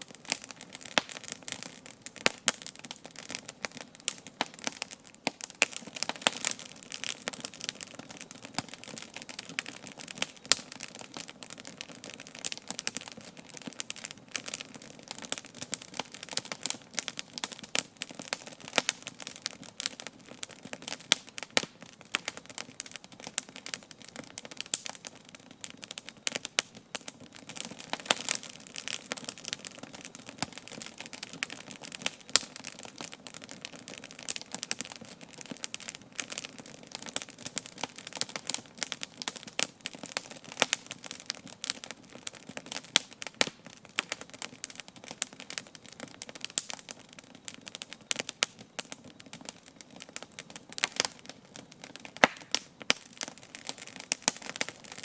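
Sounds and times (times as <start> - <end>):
campfire crackling and popping: 0.0 - 55.0
low fire hiss: 0.0 - 55.0.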